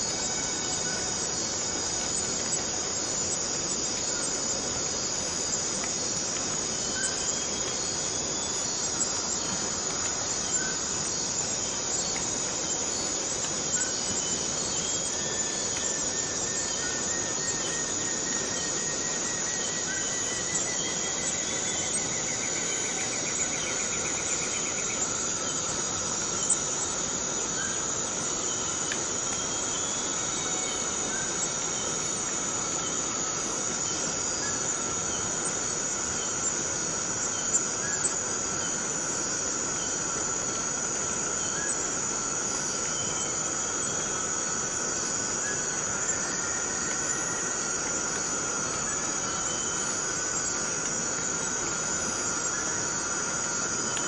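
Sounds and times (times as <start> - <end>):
cicadas chorus: 0.0 - 54.0.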